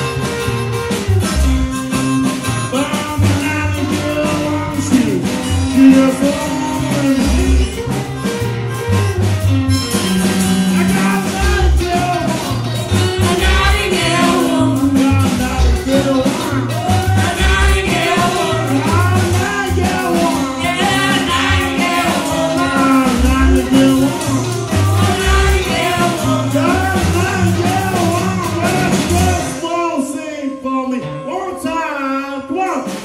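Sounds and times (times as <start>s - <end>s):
wavering lead line: 0.0s - 29.9s
live rock and roll band: 0.0s - 33.0s.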